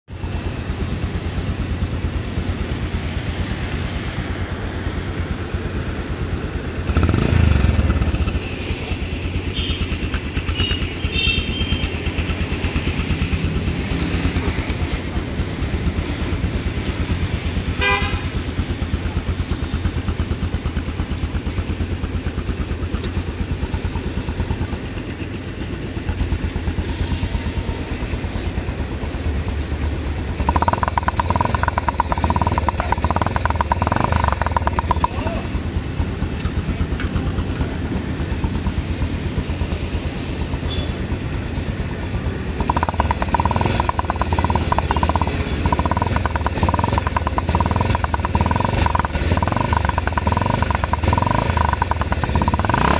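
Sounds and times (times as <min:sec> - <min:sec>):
motorcycle engine idling: 0:00.1 - 0:52.9.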